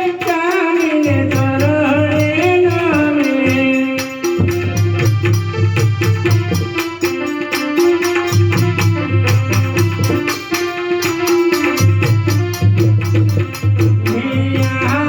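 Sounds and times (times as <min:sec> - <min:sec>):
fast hand-drum beat: 0:00.0 - 0:15.0
held melody line: 0:00.0 - 0:15.0.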